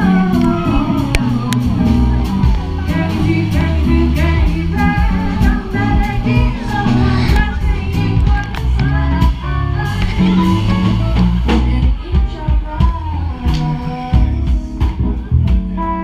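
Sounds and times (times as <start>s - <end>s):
drum kit with cymbal strokes: 0.0s - 16.0s
guitar: 0.0s - 16.0s
woman singing: 0.0s - 16.0s.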